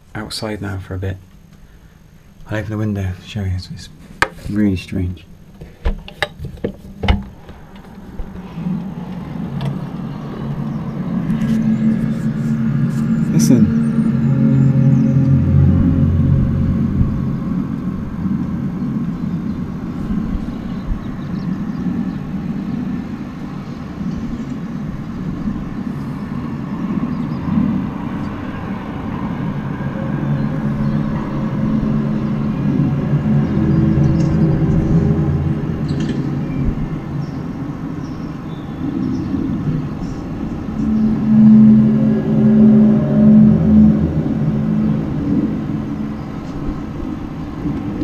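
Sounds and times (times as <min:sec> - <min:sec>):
low droning hum: 0:00.0 - 0:48.0.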